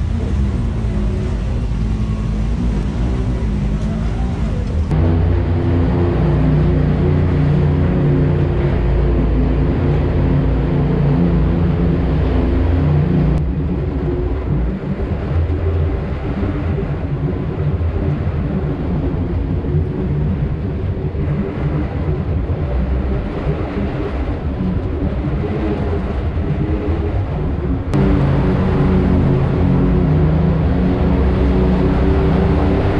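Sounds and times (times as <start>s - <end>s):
utility vehicle engine running: 0.0s - 32.9s.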